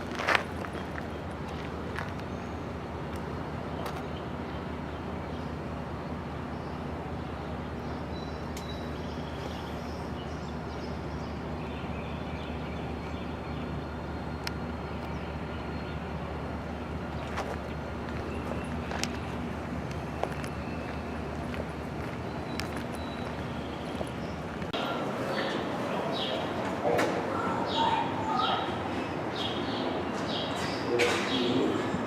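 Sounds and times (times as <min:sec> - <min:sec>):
engine idling hum: 0:00.0 - 0:26.6.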